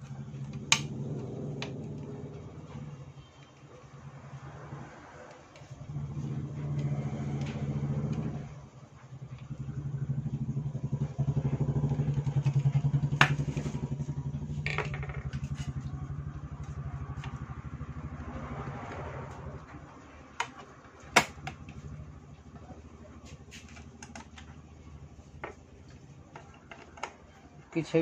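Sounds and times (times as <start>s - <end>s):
engine running with fast pulse: 0.0s - 26.6s.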